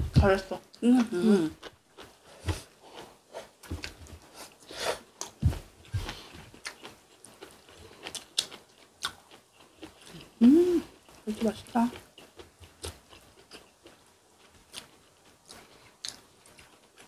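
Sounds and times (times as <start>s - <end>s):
people chewing and biting: 0.8s - 17.0s.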